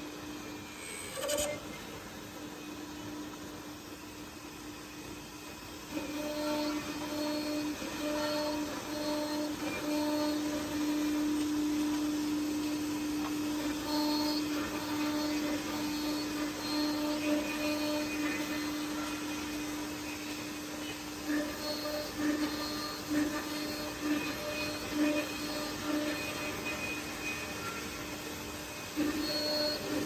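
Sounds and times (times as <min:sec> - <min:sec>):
drilling and milling machine whining: 0:00.0 - 0:30.0.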